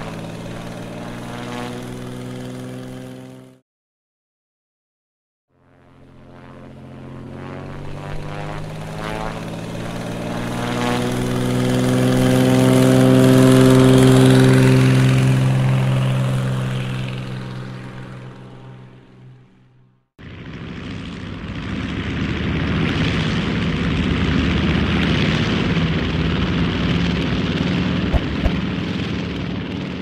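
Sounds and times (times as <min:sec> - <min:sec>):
propeller airplane flying past: 0:00.0 - 0:03.6, 0:05.5 - 0:30.0.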